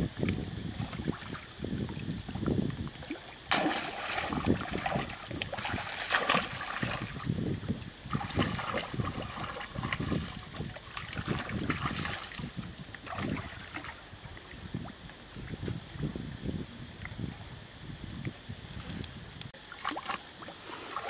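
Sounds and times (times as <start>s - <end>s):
water splashing and sloshing: 0.0s - 16.2s, 18.7s - 21.0s.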